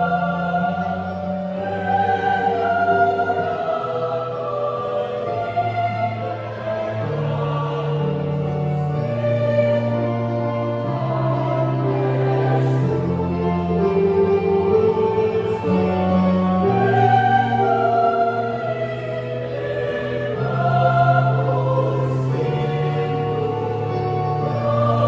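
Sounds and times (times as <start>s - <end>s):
youth choir singing in parts: 0.0s - 25.0s.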